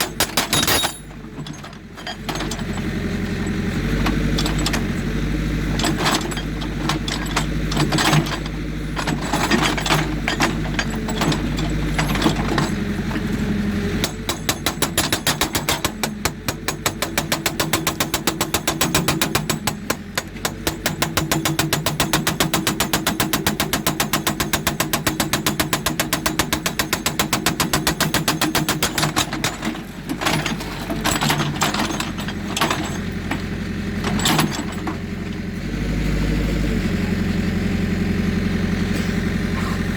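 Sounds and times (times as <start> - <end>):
hydraulic breaker hammering rock: 0.0 - 35.4
diesel engine running: 0.0 - 39.9.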